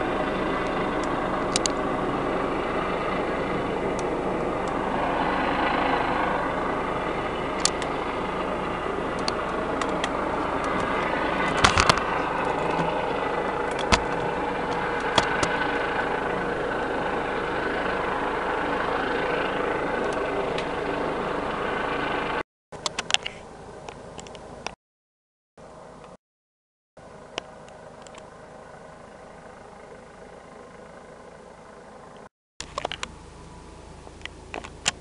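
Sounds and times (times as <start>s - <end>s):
distant helicopter drone: 0.0s - 24.8s, 27.0s - 35.0s.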